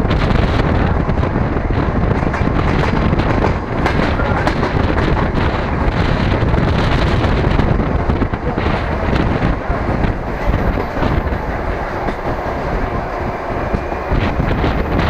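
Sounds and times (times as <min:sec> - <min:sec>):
train rumble and rattle: 0:00.0 - 0:15.0
wind buffeting microphone: 0:00.0 - 0:15.0.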